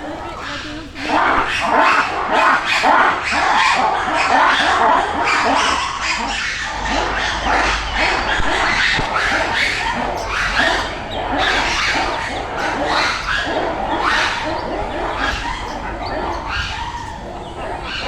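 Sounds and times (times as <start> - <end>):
animals squeaky calls: 0.0 - 18.0.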